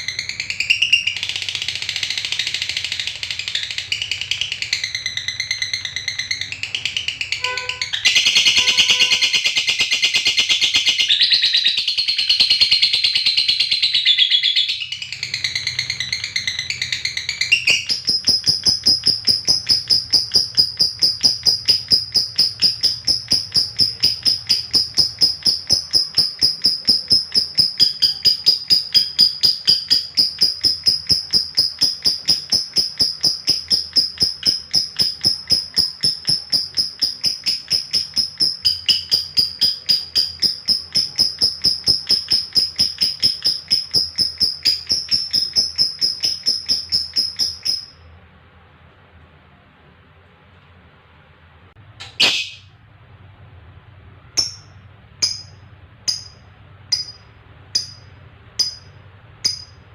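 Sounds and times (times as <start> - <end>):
lovebird rapid shrill chattering: 0.0 - 48.0.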